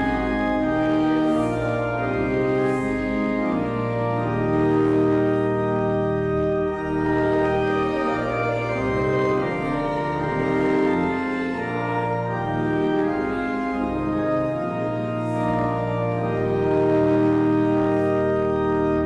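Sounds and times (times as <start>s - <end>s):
organ playing a hymn: 0.0s - 19.0s.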